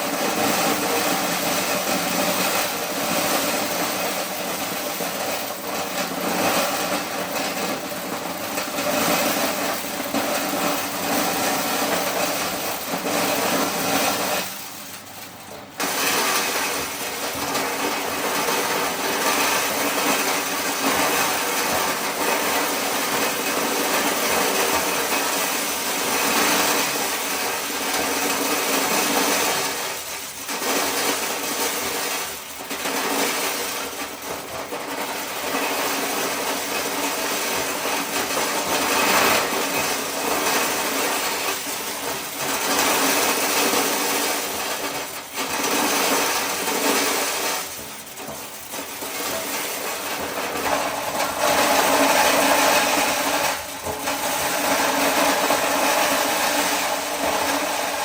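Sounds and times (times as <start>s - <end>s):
corn shelling machine running: 0.0s - 58.0s.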